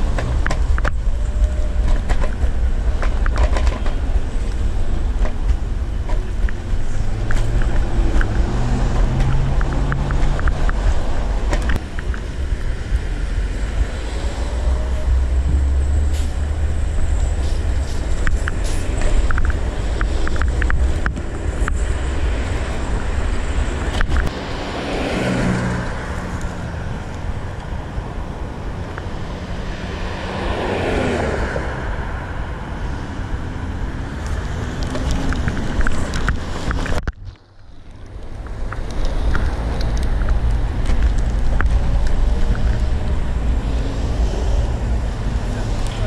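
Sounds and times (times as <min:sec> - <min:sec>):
clicks from road bumps: 0:00.0 - 0:27.7, 0:34.1 - 0:46.0
cars passing: 0:00.0 - 0:46.0
wind rumbling on microphone: 0:00.0 - 0:46.0.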